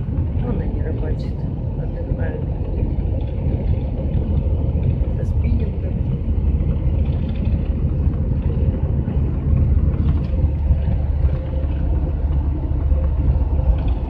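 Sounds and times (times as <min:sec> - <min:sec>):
tyres on the road: 0:00.0 - 0:14.0
van engine rumble: 0:00.0 - 0:14.0.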